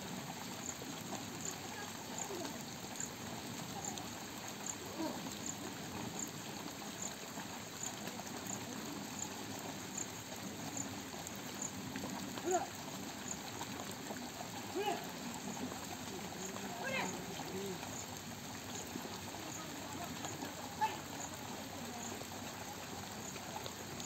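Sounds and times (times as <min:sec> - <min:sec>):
water sloshing and trickling: 0:00.0 - 0:24.0.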